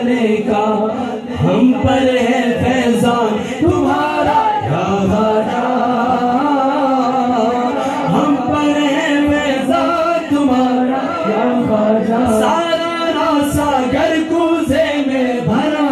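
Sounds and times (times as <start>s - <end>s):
man singing unaccompanied: 0.0s - 15.9s.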